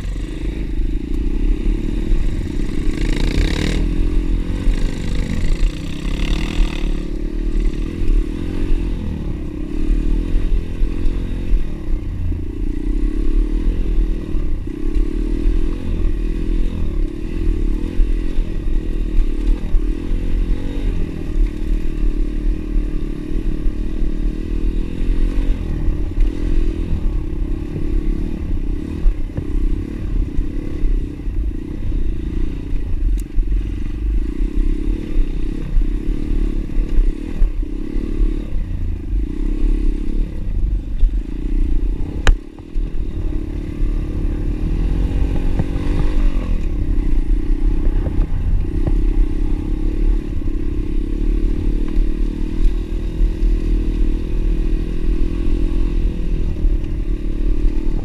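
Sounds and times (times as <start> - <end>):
pit bike engine running: 0.0 - 58.0.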